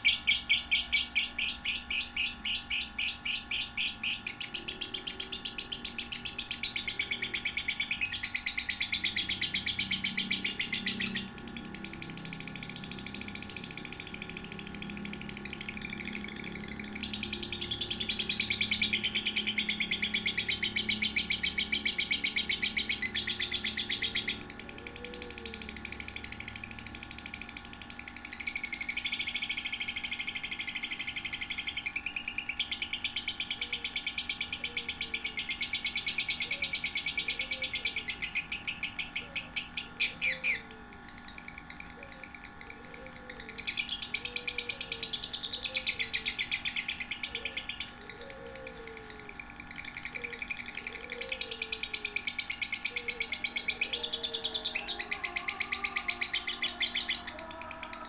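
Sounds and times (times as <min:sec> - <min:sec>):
lovebird chattering trill: 0:00.0 - 0:58.0.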